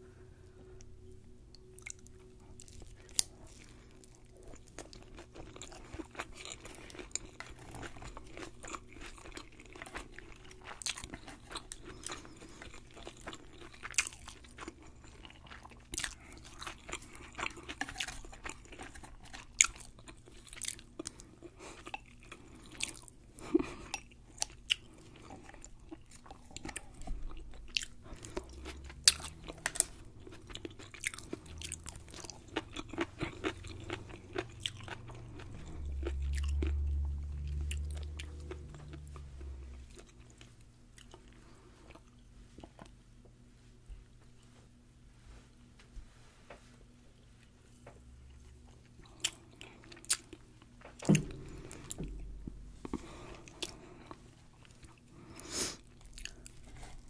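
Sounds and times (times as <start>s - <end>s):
chewing seaweed salad: 1.5s - 43.0s, 47.4s - 57.0s
crunchy chewing: 1.5s - 43.0s, 48.3s - 57.0s.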